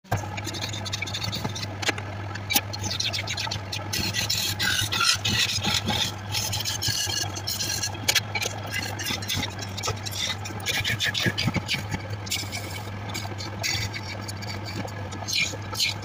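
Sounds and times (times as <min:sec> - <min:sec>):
tool scraping spinning wood: 0:00.1 - 0:16.0.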